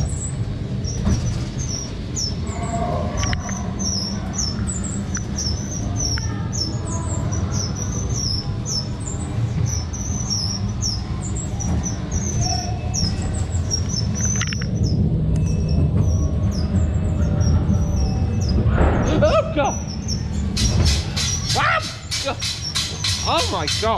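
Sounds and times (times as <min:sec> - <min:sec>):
ride car rumbling on track: 0:00.0 - 0:23.9
high-pitched chirping squeaks: 0:00.8 - 0:18.7, 0:19.6 - 0:23.9.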